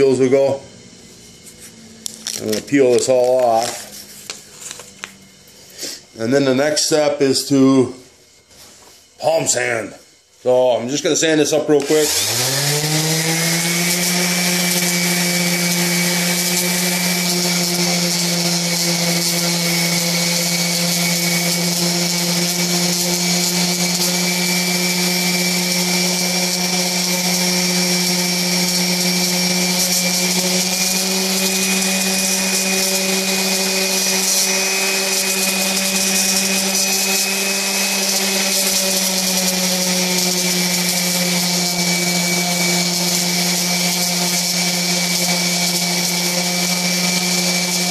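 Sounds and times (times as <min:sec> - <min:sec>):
palm sander running: 0:00.0 - 0:47.9.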